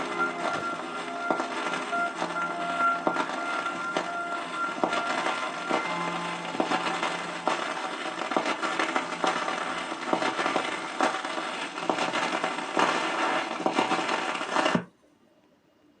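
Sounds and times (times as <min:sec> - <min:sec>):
vinyl record hiss and crackle: 0:00.0 - 0:16.0.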